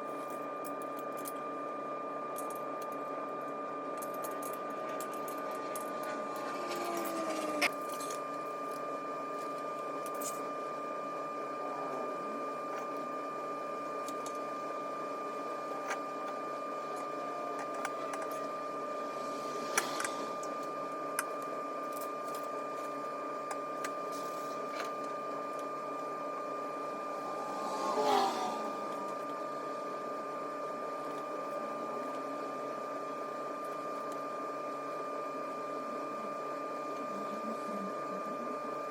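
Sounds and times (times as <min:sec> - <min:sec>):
steady mechanical hum: 0:00.0 - 0:38.9.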